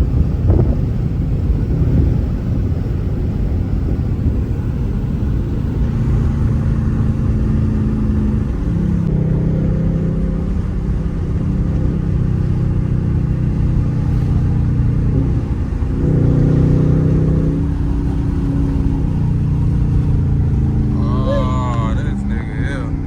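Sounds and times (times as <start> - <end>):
loud car engine drone: 0.0 - 23.0.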